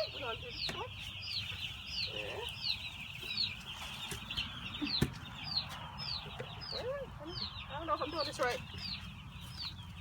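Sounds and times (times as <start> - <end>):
chickens chirping and peeping: 0.0 - 10.0.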